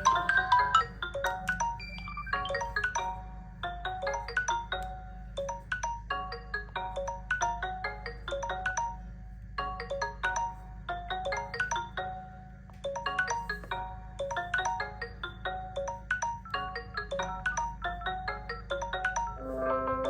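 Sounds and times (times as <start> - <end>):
smartphone ringtone melody: 0.0 - 20.0.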